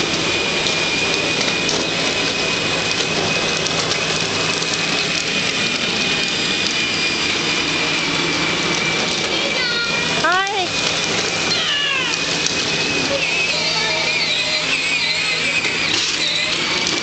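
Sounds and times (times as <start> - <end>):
thin high whine: 0.0 - 10.4, 11.2 - 17.0
small tractor motor hum: 0.0 - 17.0.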